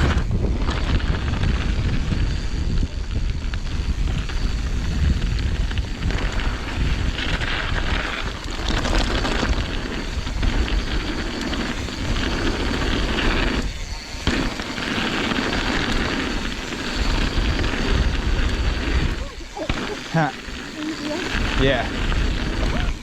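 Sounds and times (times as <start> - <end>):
bike tyres rolling on dirt: 0.0 - 23.0
wind buffeting microphone: 0.0 - 23.0.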